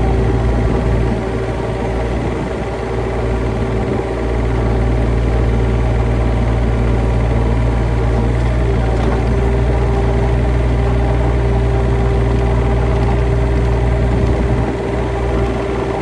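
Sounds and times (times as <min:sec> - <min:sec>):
large engine humming: 0:00.0 - 0:16.0.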